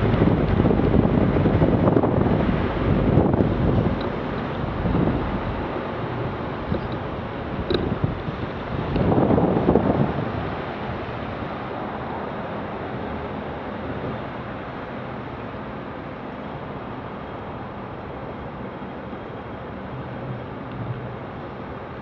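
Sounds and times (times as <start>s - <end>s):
low car hum: 0.0s - 22.0s
tyre and road noise: 0.0s - 22.0s.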